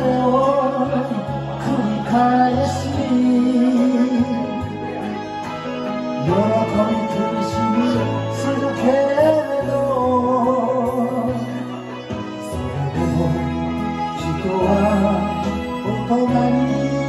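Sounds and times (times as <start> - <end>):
man singing into a microphone: 0.0 - 17.0
recorded backing track: 0.0 - 17.0.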